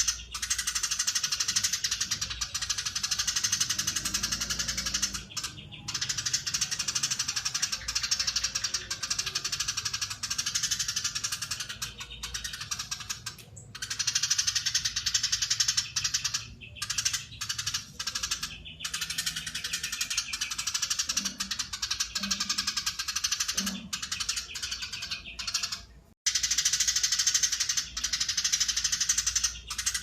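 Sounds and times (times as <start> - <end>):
sparrow chattering: 0.0 - 30.0.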